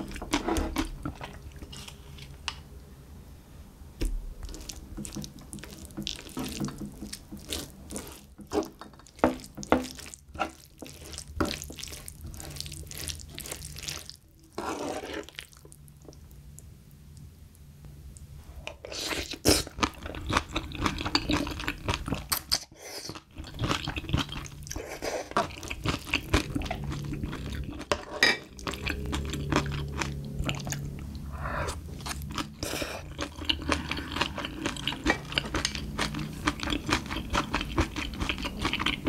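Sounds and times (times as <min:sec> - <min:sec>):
wet squishing of food mixing: 0:00.0 - 0:02.4, 0:04.1 - 0:16.6, 0:18.7 - 0:22.4, 0:23.1 - 0:39.0.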